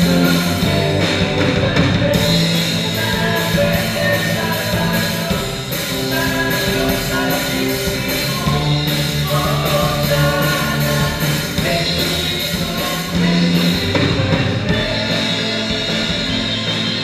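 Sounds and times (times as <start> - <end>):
live rock band playing: 0.0 - 17.0
person singing: 0.0 - 17.0.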